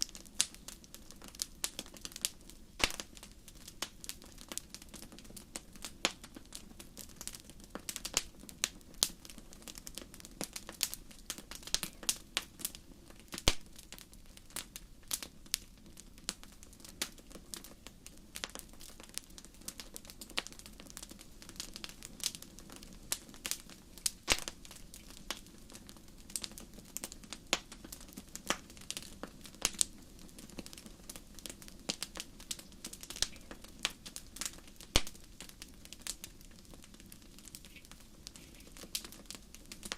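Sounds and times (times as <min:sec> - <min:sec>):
faint low background noise: 0:00.0 - 0:39.9
fire crackling: 0:00.0 - 0:39.9.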